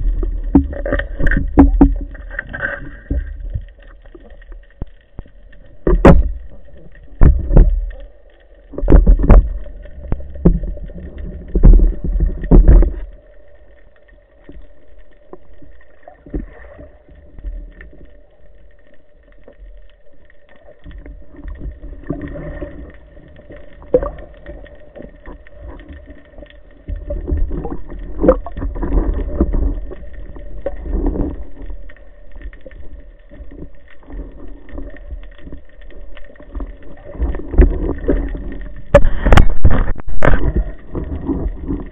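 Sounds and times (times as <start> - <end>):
water sloshing and splashing: 0.0 - 41.9.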